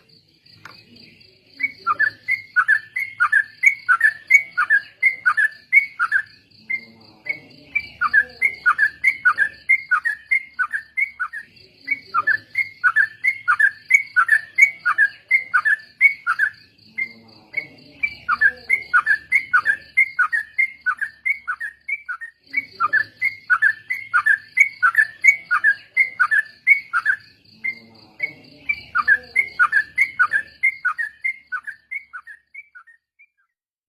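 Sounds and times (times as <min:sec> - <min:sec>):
birds chattering: 0:00.0 - 0:33.1.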